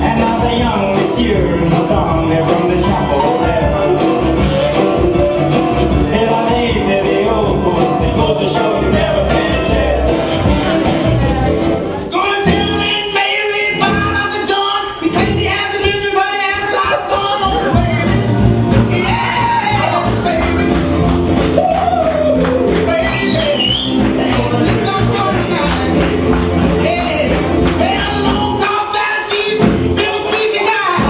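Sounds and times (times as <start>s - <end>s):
upbeat dance music: 0.0s - 31.0s.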